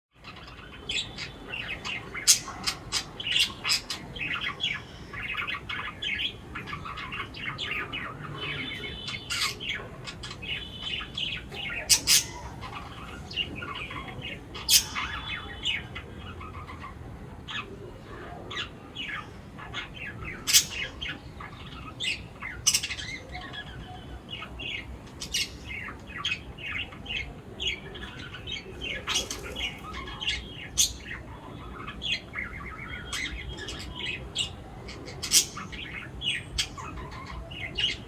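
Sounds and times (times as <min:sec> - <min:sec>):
birds chirping and calling: 0:00.2 - 0:38.0.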